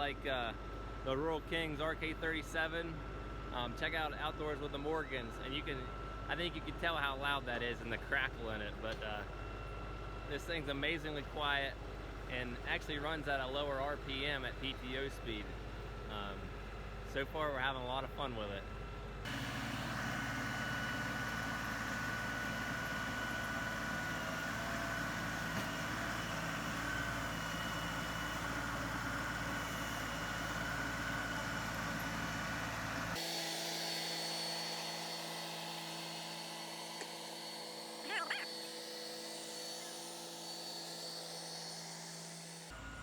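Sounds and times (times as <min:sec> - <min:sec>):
tractor diesel engine hum: 0:00.0 - 0:43.0.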